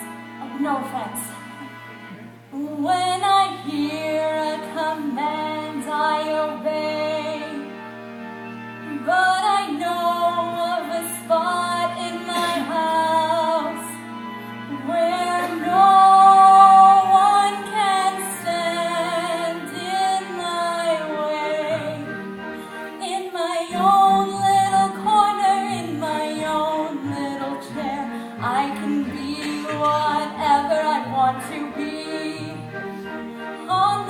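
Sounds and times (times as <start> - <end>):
woman singing: 0.0 - 1.4, 2.5 - 7.8, 8.9 - 14.1, 14.7 - 22.2, 23.0 - 32.9, 33.5 - 34.0
instrumental accompaniment: 0.0 - 34.0.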